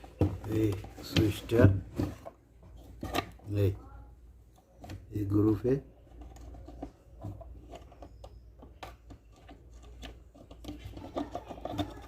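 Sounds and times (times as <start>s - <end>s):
plastic parts clicking and scraping: 0.0s - 3.7s, 4.5s - 12.0s.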